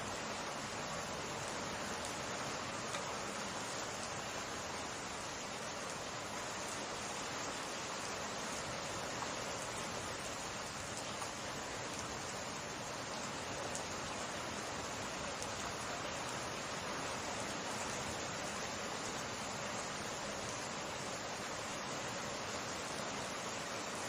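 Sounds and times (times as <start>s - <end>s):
rain falling steadily: 0.0s - 24.0s.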